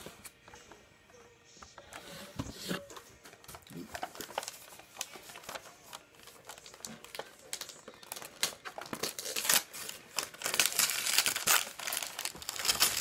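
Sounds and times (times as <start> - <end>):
paper crinkling and tearing: 2.0 - 13.0.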